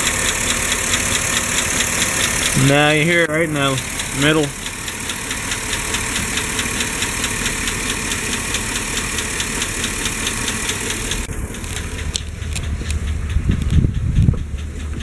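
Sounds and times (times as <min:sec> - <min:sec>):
car engine idling: 0:00.0 - 0:15.0
fast even valvetrain ticking: 0:00.0 - 0:15.0.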